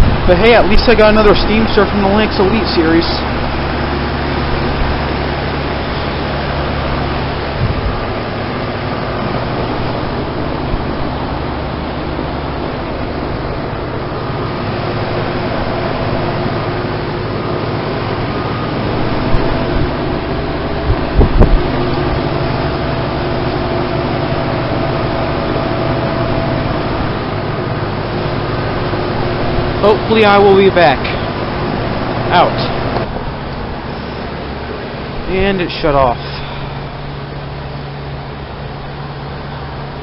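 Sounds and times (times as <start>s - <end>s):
condenser fan rushing: 0.0s - 40.0s
heat pump compressor hum: 0.0s - 40.0s.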